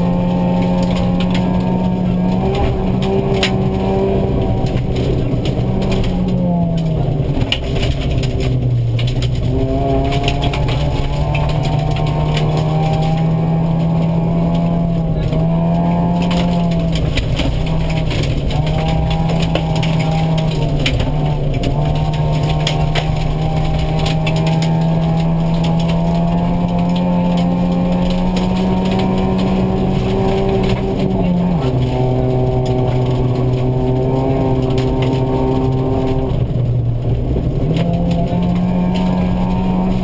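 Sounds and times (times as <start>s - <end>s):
car engine revving high: 0.0s - 40.0s
gravel clattering against car: 0.0s - 40.0s.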